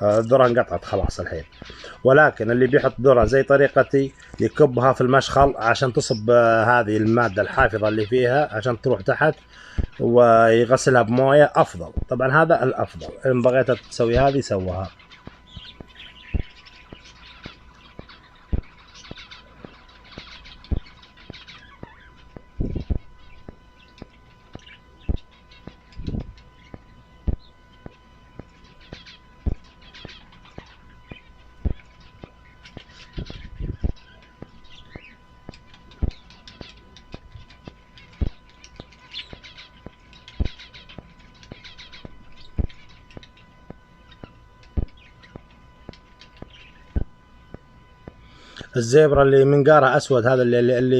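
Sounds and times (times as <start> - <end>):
cage birds chirping: 0.0 - 50.9.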